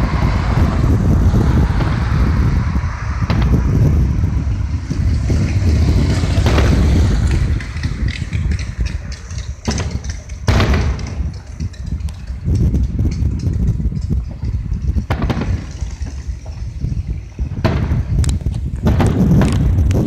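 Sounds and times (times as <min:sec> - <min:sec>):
faint firework crackles: 0:00.0 - 0:20.0
fireworks booming: 0:00.0 - 0:20.0
fireworks sharp bangs: 0:00.0 - 0:20.0.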